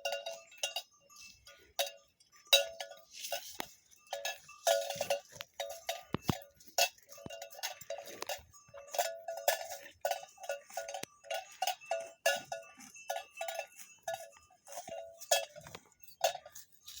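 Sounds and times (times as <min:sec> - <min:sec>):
cowbells clanking: 0:00.0 - 0:17.0.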